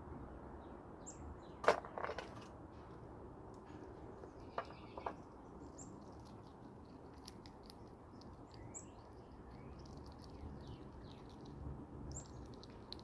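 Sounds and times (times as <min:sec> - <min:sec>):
chipmunk chewing nuts: 0:01.6 - 0:13.0.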